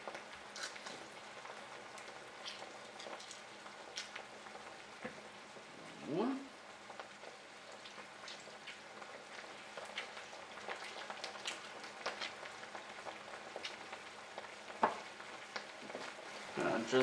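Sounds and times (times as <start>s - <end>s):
beans sizzling in a pan: 0.0s - 17.0s.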